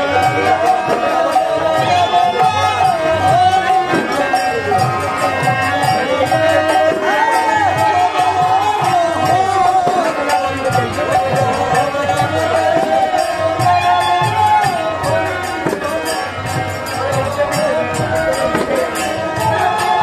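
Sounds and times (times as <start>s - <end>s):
drum beat: 0.0s - 20.0s
hand cymbals: 0.0s - 20.0s.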